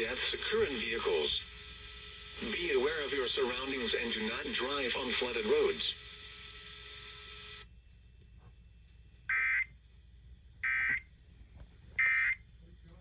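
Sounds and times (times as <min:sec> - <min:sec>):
broadcast hiss with faint hum: 0:00.0 - 0:13.0.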